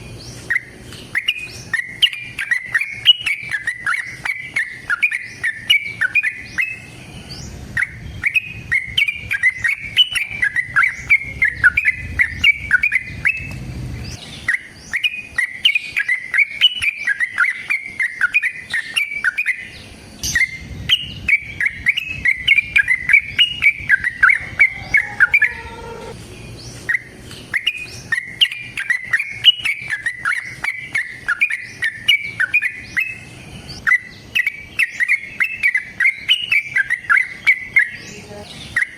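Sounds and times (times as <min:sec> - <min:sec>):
bird chirping song: 0:00.0 - 0:38.9.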